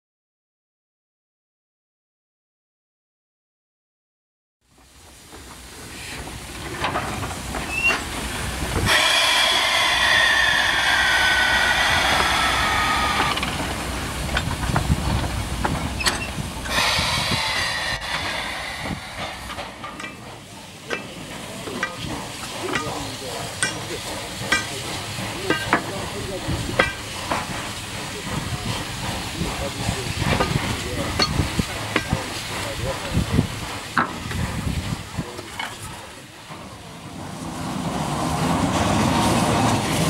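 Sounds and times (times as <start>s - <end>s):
steam locomotive hissing steam: 4.7s - 40.0s.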